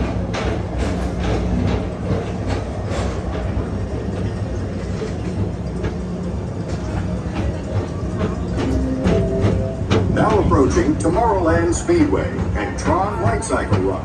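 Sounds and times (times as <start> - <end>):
ride car hum and rumble: 0.0 - 14.0.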